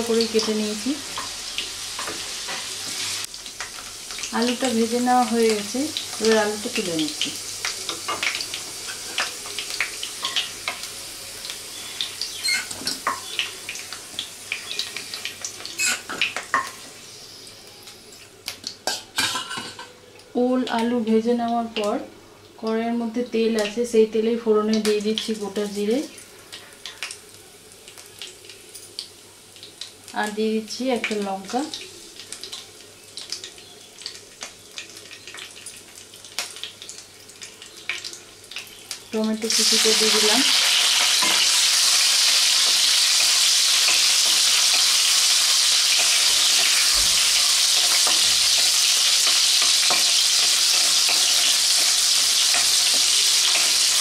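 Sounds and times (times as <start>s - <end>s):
potatoes sizzling in hot oil: 0.0s - 54.0s.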